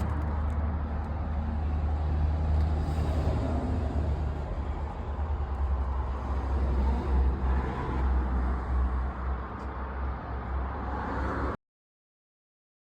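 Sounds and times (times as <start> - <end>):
motor vehicle rumbling: 0.0 - 11.6
road noise: 0.0 - 11.6.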